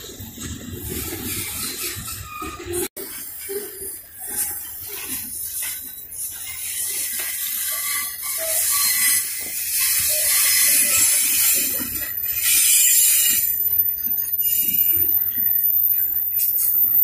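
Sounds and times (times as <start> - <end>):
train wheels rolling on rails: 0.0 - 17.0
wheels squealing: 0.0 - 17.0.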